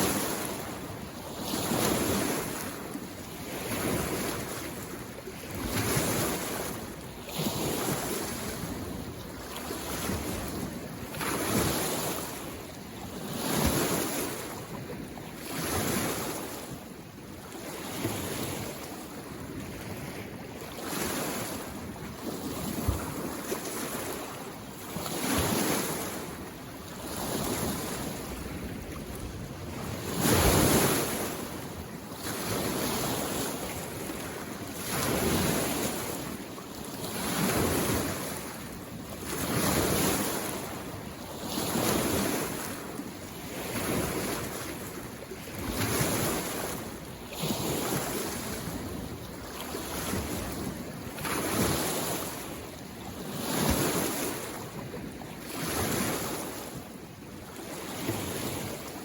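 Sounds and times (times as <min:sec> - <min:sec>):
lake waves washing on shore: 0:00.0 - 0:59.0.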